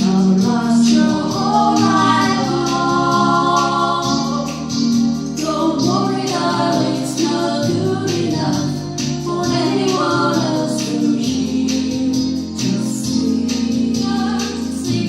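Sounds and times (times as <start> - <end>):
keyboard backing track: 0.0 - 15.0
steady drum beat: 0.0 - 15.0
women singing in harmony: 0.0 - 15.0.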